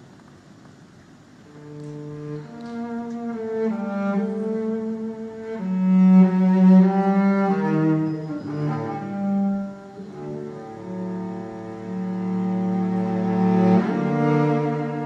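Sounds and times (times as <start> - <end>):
cello playing slow melody: 1.4 - 15.0.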